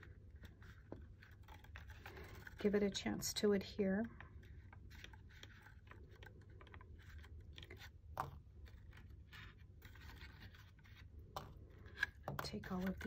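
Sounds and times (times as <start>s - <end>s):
paper rustling and scraping: 0.0s - 13.0s.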